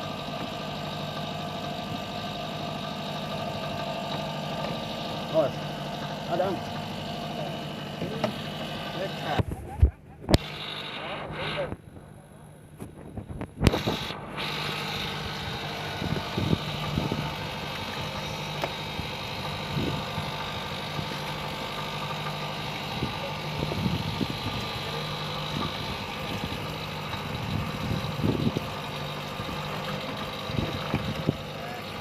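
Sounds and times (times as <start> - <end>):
boat engine idling: 0.0 - 32.0.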